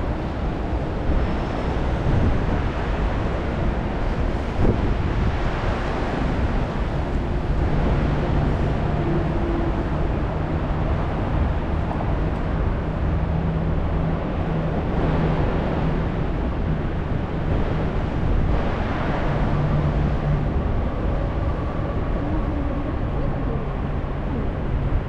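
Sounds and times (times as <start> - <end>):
rain: 0.0 - 25.0
wind: 0.0 - 25.0.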